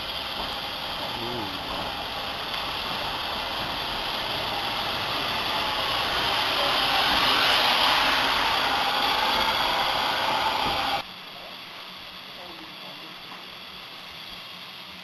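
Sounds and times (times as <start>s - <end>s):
steam locomotive venting steam: 0.0s - 15.0s.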